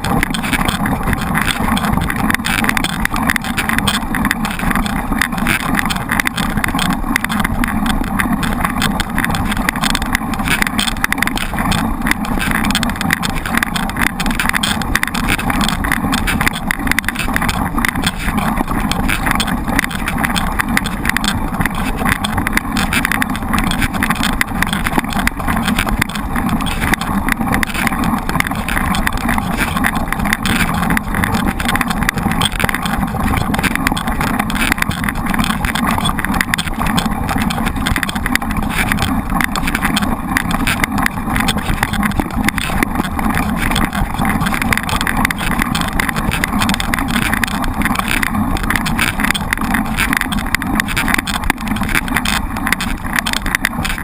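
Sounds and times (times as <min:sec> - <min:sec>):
bike tyre and frame rattle: 0:00.0 - 0:54.0.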